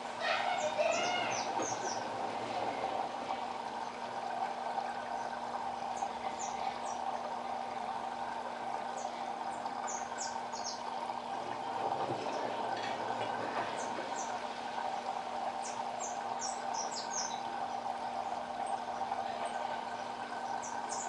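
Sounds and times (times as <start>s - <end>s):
washing machine hum: 0.0s - 21.0s
water washing in drum: 0.0s - 21.0s.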